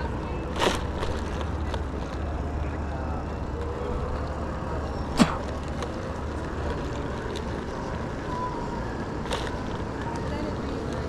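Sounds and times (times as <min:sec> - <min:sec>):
outdoor traffic noise: 0:00.0 - 0:11.0.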